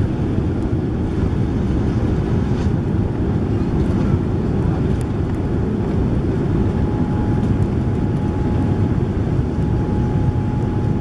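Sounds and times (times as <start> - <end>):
airplane cabin engine rumble: 0.0 - 11.0
faint steady whine: 0.0 - 11.0.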